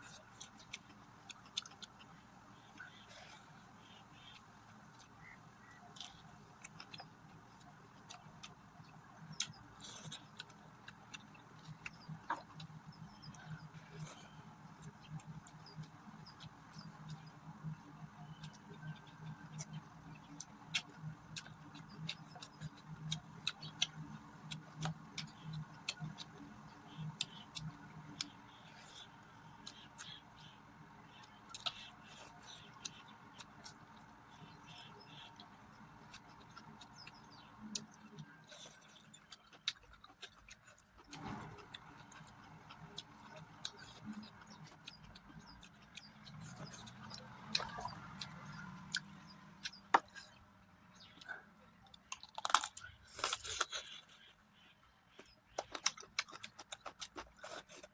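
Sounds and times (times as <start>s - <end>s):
close chewing with wet mouth clicks: 0.0s - 57.9s.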